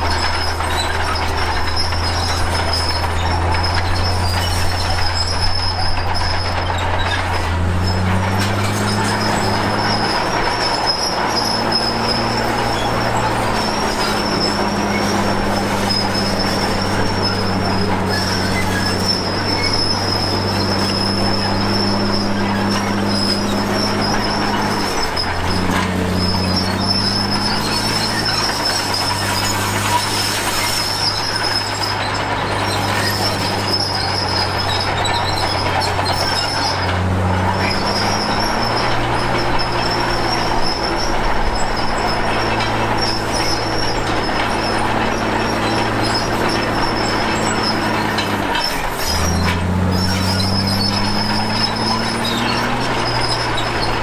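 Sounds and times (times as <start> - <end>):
bulldozer diesel engine under load: 0.0 - 54.0
metallic squeal of steel tracks: 0.0 - 54.0.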